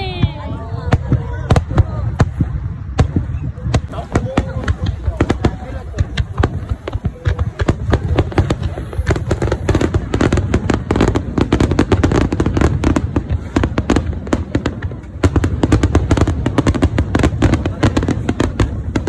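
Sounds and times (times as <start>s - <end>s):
fireworks crackling and popping: 0.0s - 19.0s.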